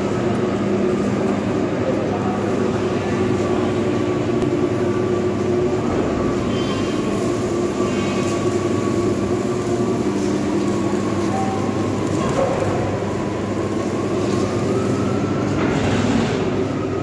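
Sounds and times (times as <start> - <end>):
heavy electric machinery hum: 0.0 - 17.0.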